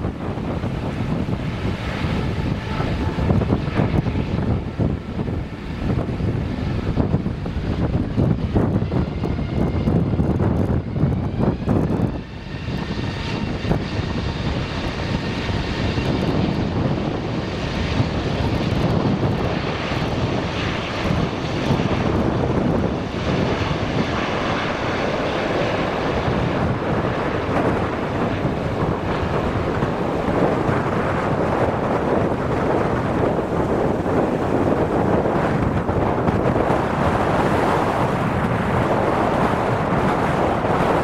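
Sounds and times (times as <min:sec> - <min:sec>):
gusty wind on microphone: 0:00.0 - 0:41.0
jet engine roar and whine: 0:00.0 - 0:41.0.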